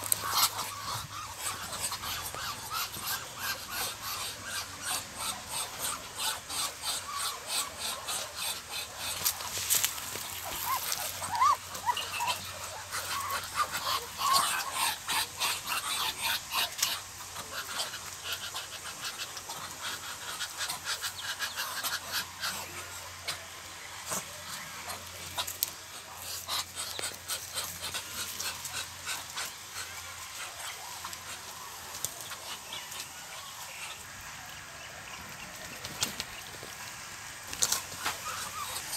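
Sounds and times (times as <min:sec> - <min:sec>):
ducks huffing calls: 0:00.0 - 0:34.2.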